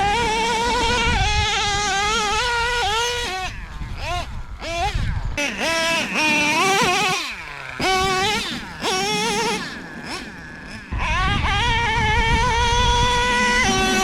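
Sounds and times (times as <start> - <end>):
nitro engine revving: 0.0 - 14.0.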